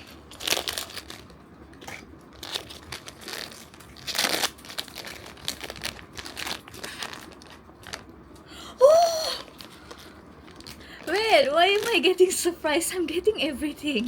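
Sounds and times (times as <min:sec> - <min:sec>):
packaging crinkling and tearing: 0:00.0 - 0:08.2, 0:09.1 - 0:12.6.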